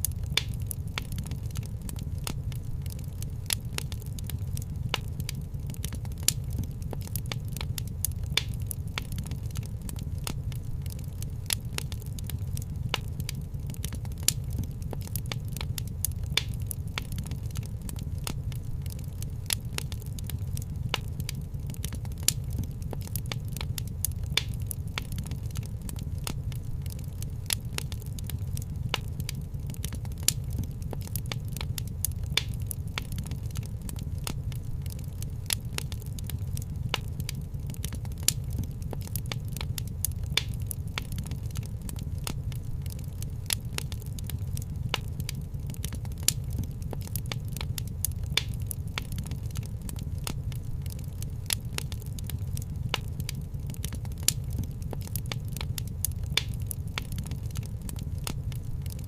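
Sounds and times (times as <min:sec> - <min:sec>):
fireplace fire crackling: 0:00.0 - 0:59.0
low rumble of flames: 0:00.0 - 0:59.0.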